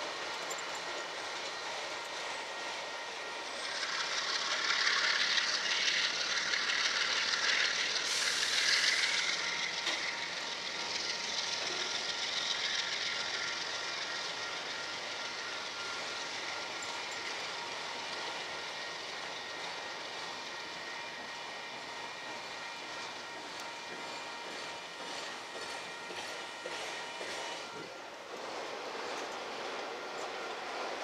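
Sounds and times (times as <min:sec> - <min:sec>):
freight cars rolling on rails: 0:00.0 - 0:31.0.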